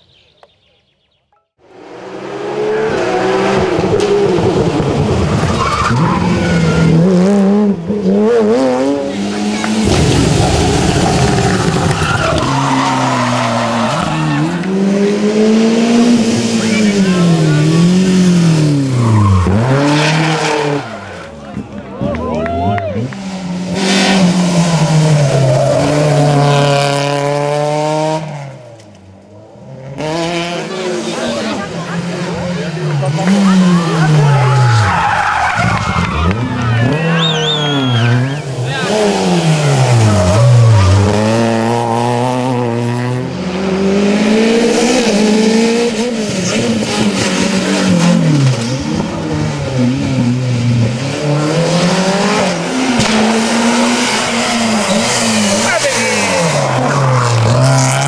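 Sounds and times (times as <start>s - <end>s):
rally car engine revving: 1.6s - 58.0s.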